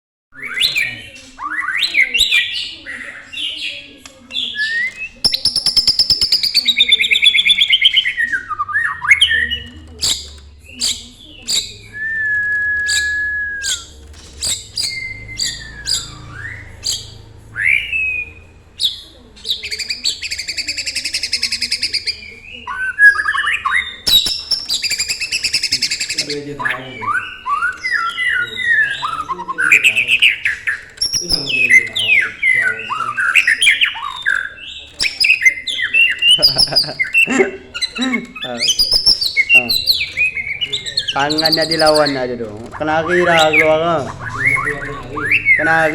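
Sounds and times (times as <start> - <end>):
songbird singing: 0.4 - 45.9.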